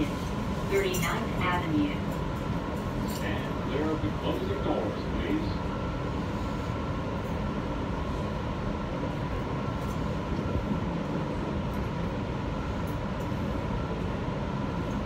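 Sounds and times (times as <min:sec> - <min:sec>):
thin steady whine: 0:00.0 - 0:15.0
wheels rumbling on rail: 0:00.0 - 0:15.0.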